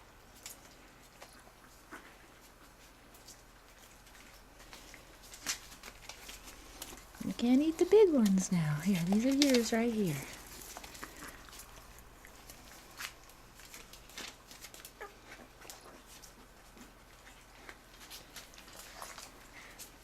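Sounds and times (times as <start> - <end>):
dogs crunching dry kibble: 0.2 - 20.0.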